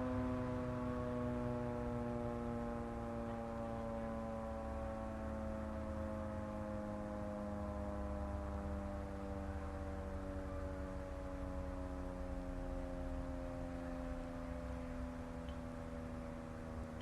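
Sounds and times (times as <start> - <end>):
warning siren dissonant chord: 0.0 - 17.0.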